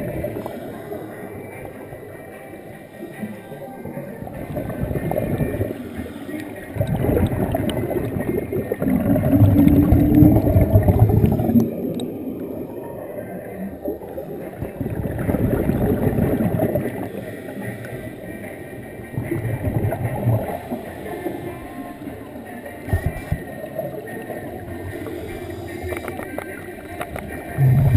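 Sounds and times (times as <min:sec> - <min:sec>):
underwater scuba bubbles gurgling: 0:00.0 - 0:27.9.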